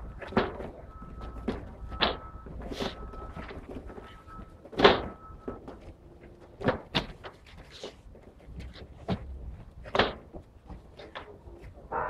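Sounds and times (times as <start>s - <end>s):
cardboard boxes thudding: 0.1s - 11.2s.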